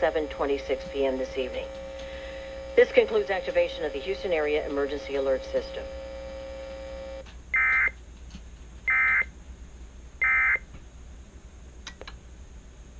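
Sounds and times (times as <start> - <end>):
steady hum: 0.0 - 12.9.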